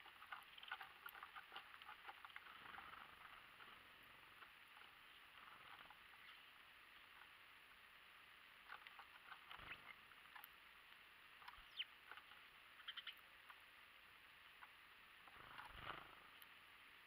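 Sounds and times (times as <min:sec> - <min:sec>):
bird chirp: 0:00.0 - 0:07.4, 0:08.6 - 0:10.6, 0:11.3 - 0:13.6, 0:14.5 - 0:16.5
birds pecking on wooden feeder: 0:00.0 - 0:07.5, 0:08.6 - 0:13.7, 0:14.5 - 0:16.6.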